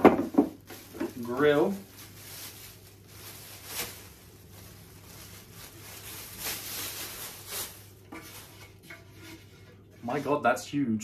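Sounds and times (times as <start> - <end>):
plastic wrapping rustling: 0.0 - 10.4
low steady hum: 0.0 - 11.0.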